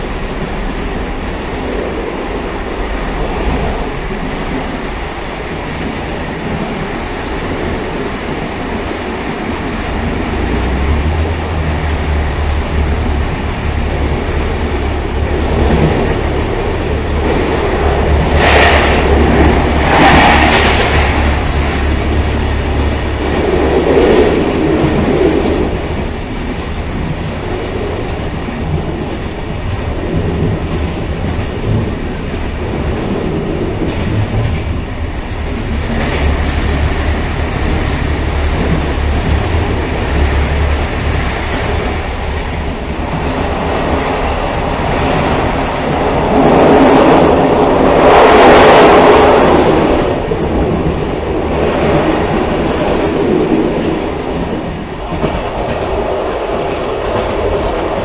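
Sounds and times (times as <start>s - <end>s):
railcar rumbling on rails: 0.0s - 58.0s.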